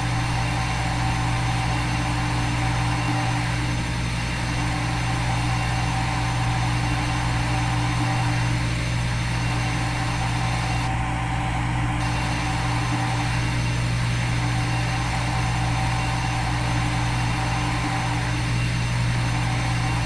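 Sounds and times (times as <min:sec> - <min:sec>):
milling machine humming: 0:00.0 - 0:20.0.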